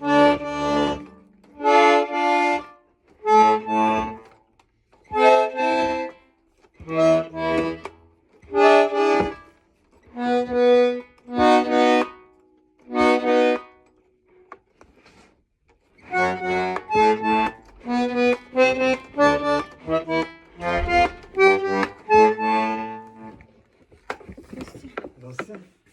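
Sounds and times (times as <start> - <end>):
button accordion chords: 0.0 - 15.2, 16.0 - 24.3.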